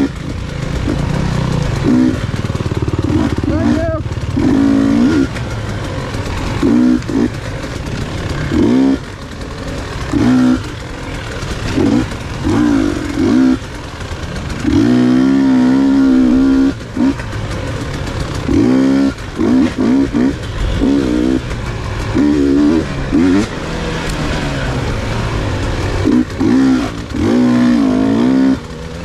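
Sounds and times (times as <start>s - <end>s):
racing engine revving: 0.0s - 29.0s.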